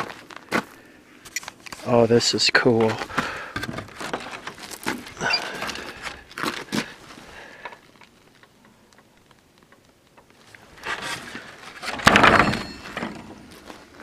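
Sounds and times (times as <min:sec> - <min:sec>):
crunches and rustles of handling: 0:00.0 - 0:14.0.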